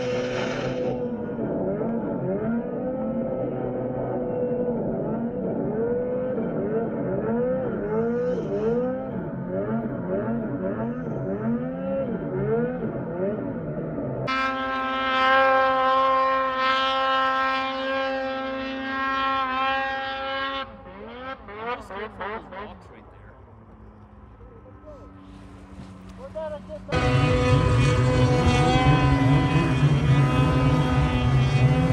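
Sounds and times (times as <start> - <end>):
snowmobile engine at high steady revs: 0.0 - 31.9
snowmobile engine revving: 0.0 - 31.9.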